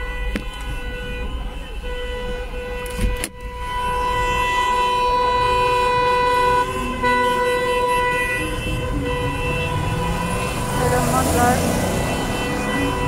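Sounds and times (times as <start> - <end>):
car horns blasting: 0.0 - 13.0
traffic noise: 0.0 - 13.0.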